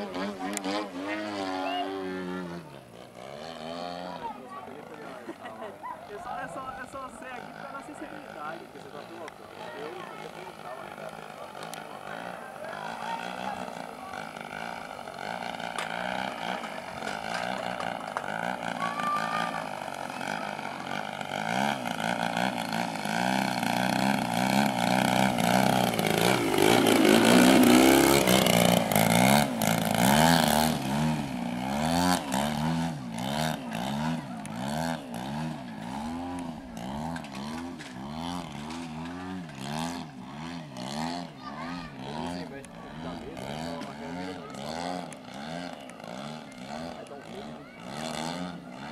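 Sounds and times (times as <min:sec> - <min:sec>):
model plane engine: 0:00.0 - 0:48.9.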